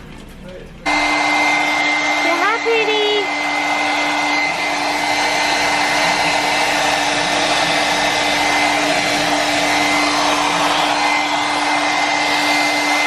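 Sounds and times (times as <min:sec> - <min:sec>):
hair dryer running: 0:00.9 - 0:13.0.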